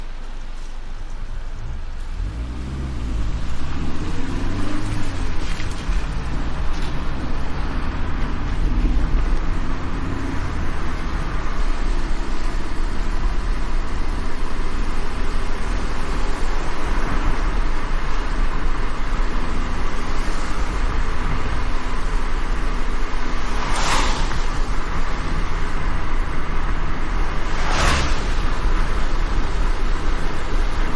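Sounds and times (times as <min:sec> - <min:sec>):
car engine: 0:00.0 - 0:30.9
rain and tyre spray hiss: 0:00.0 - 0:30.9.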